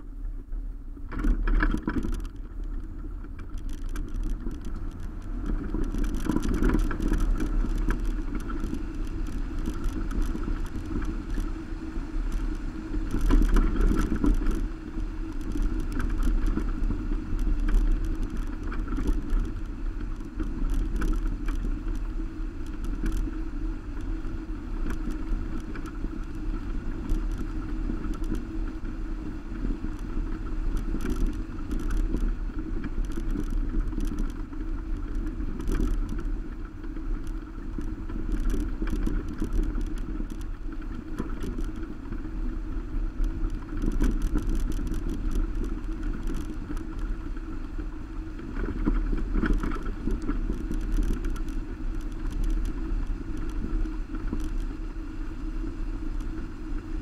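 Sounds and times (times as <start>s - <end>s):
car driving on gravel rumble: 0.0s - 57.0s
ticks and rattles from road: 0.0s - 57.0s.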